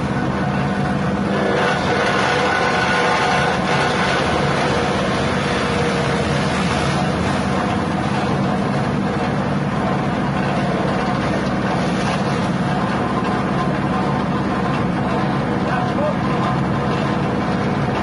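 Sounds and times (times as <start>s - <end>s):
grass chopper petrol engine running: 0.0s - 18.0s.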